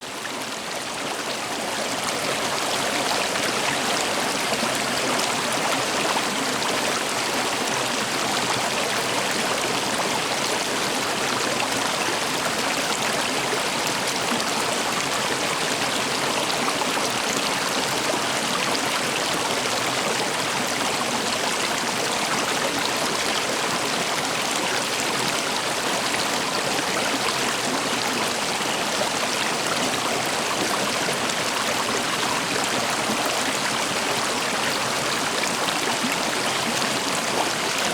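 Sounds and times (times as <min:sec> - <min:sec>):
stream water flowing: 0:00.0 - 0:37.9.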